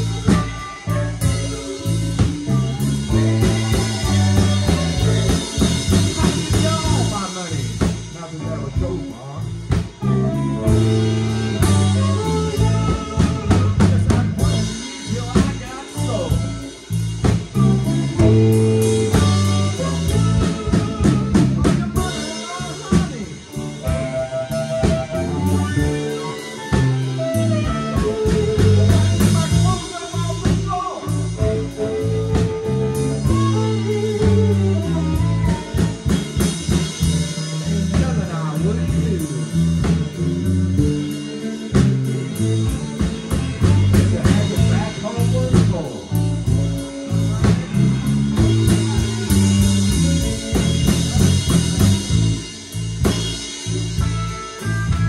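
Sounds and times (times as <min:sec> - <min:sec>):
blues harmonica through microphone: 0:00.0 - 0:55.0
drum kit: 0:00.0 - 0:55.0
electric bass: 0:00.0 - 0:55.0
electric guitar: 0:00.0 - 0:55.0.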